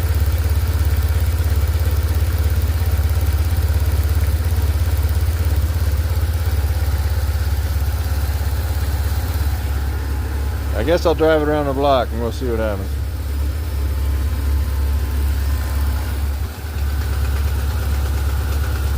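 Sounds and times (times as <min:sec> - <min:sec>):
engine knocking: 0:00.0 - 0:18.9
motorcycle engine idling: 0:00.0 - 0:18.9.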